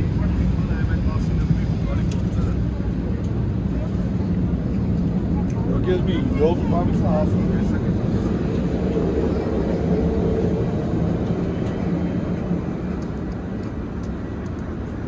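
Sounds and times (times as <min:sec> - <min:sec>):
aircraft cabin engine rumble: 0:00.0 - 0:15.0.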